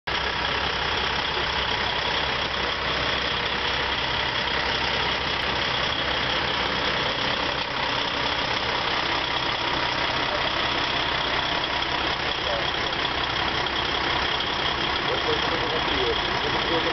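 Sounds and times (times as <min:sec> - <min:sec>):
truck diesel engines idling: 0:00.1 - 0:16.9.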